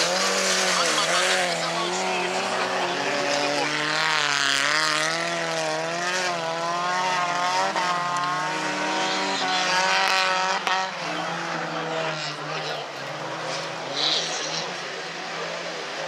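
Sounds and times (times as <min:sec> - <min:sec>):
stock car engines revving: 0:00.0 - 0:16.0.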